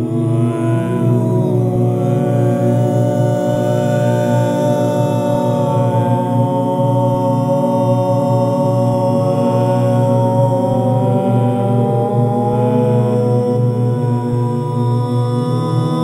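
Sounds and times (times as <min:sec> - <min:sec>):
layered sung vocal drone: 0:00.0 - 0:16.0.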